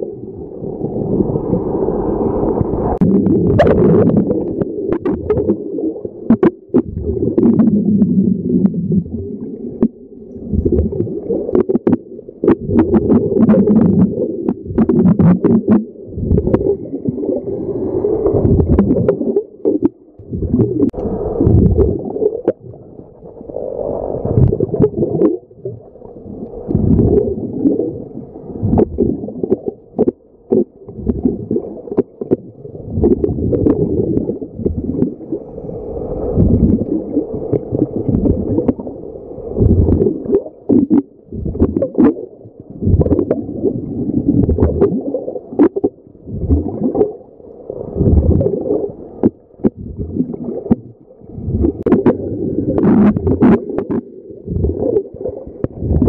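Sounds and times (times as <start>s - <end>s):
bubbles gurgling underwater: 0.0s - 56.0s.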